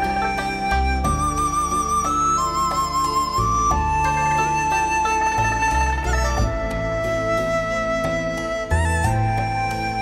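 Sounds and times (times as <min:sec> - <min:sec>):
flute melody: 0:00.0 - 0:10.0.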